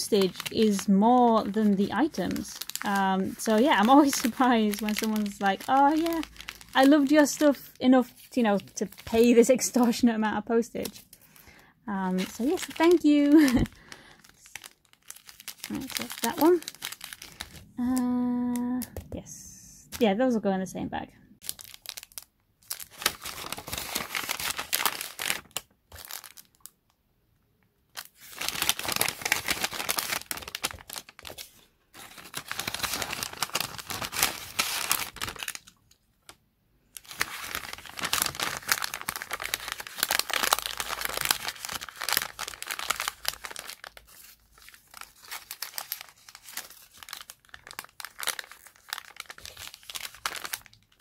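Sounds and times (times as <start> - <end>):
paper bags crinkling: 0.0 - 10.0, 10.8 - 18.0, 21.4 - 26.7, 28.0 - 36.0, 37.0 - 51.0
cellophane rustling: 0.0 - 10.1, 10.7 - 18.0, 21.4 - 26.8, 27.9 - 51.0.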